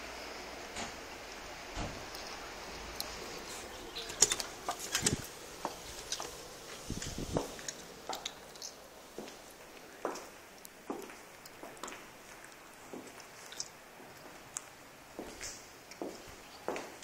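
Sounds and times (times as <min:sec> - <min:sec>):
outdoor hiss: 0:00.0 - 0:17.0
footsteps: 0:03.0 - 0:17.0.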